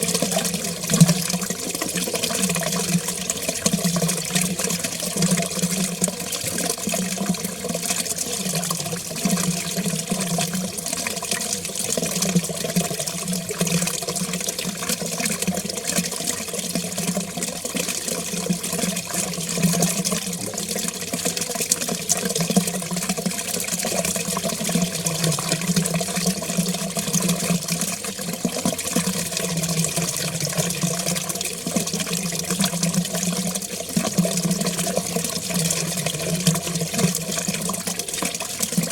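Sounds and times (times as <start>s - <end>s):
water rushing down a drain: 0.0s - 38.9s.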